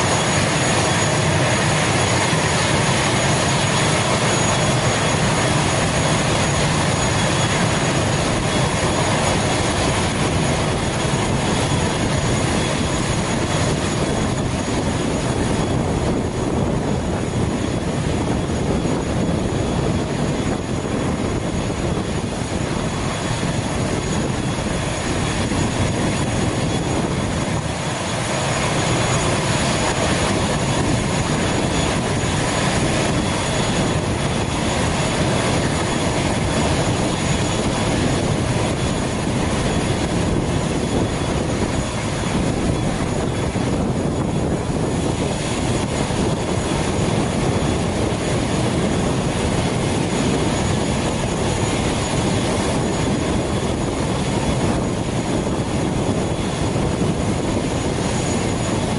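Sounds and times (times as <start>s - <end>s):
aircraft turbine engine running: 0.0s - 58.9s.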